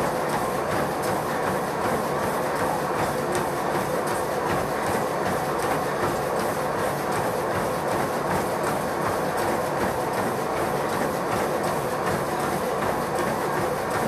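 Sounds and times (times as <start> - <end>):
footfalls on treadmill belt: 0.0 - 14.0
treadmill motor whir: 0.0 - 14.0.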